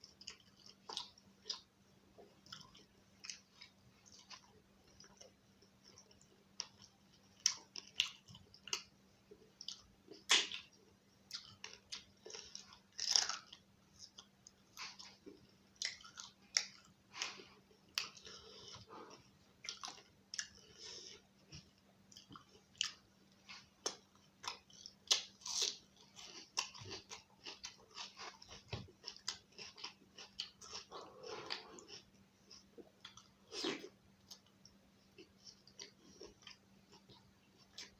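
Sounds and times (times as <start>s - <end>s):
faint steady hum: 0.0s - 37.9s
person chewing wetly: 0.0s - 37.9s.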